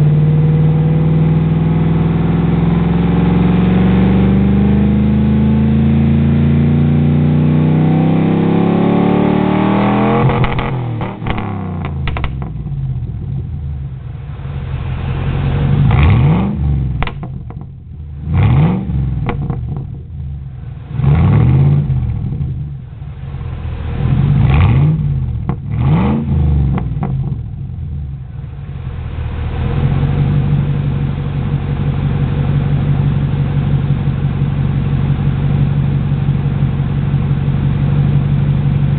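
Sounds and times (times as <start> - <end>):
loud engine exhaust revving: 0.0 - 38.9.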